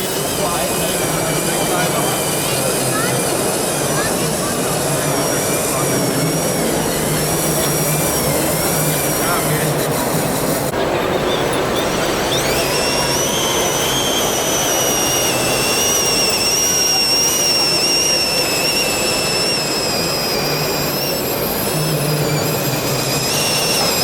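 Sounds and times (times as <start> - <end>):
hall noise: 0.0 - 24.0
toy tractor motors whining: 0.0 - 24.0.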